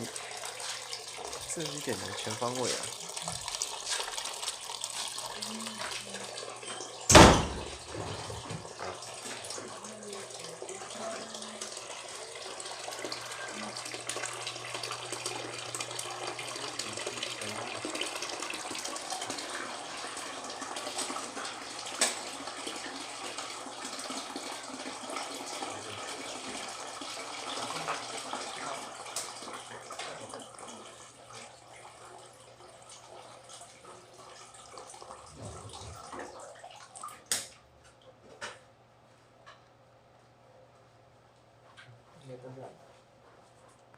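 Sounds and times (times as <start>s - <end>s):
running water splashing: 0.0s - 37.6s.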